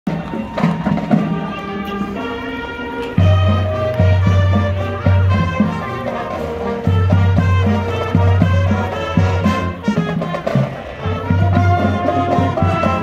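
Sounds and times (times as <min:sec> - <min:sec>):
brass tune: 0:00.1 - 0:13.0
marching band playing: 0:00.1 - 0:13.0.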